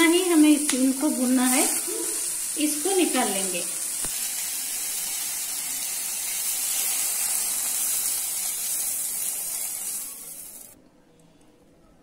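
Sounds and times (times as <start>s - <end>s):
vegetables sizzling in butter: 0.0s - 10.8s.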